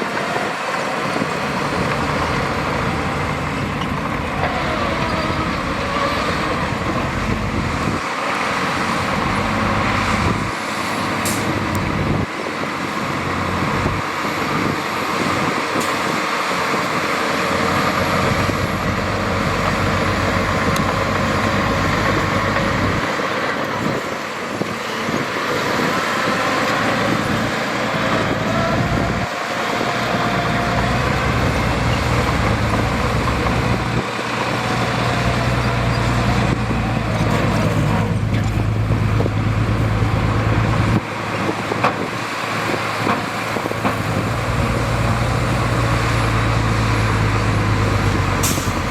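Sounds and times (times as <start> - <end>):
heavy machinery diesel engines: 0.0 - 48.9.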